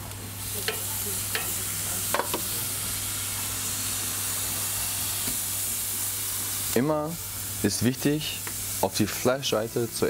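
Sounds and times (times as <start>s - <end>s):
steak sizzling on a grill: 0.0s - 10.0s.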